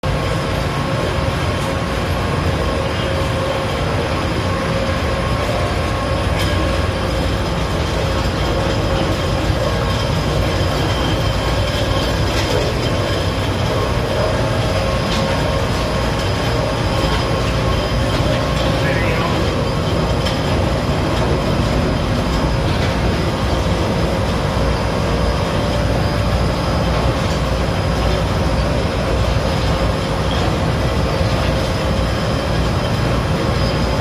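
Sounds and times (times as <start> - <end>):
mechanical drone of dryer: 0.0 - 34.0.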